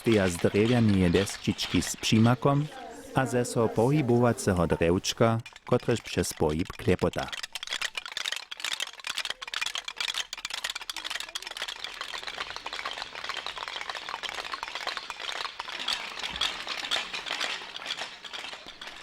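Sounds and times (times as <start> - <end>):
wooden clappers rattling: 0.0 - 19.0.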